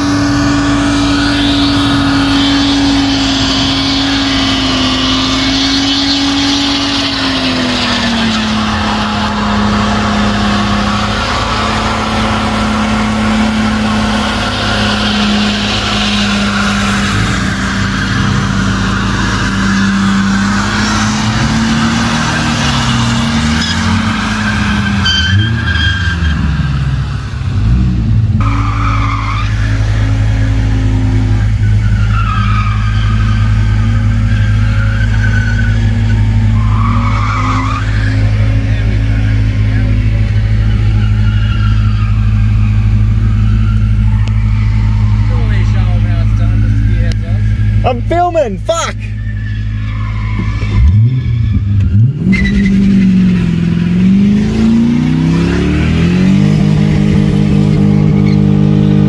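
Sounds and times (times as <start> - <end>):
tyres squealing: 0.0 - 26.9, 28.4 - 59.0
car engine revving high: 0.0 - 59.0.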